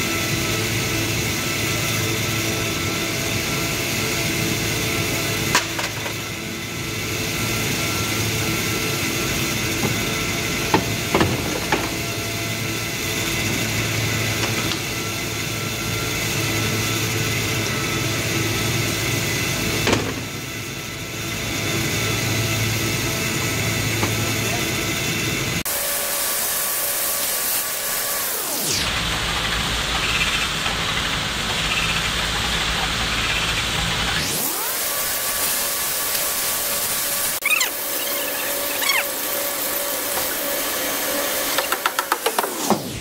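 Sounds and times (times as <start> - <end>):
workshop machinery drone: 0.0 - 43.0.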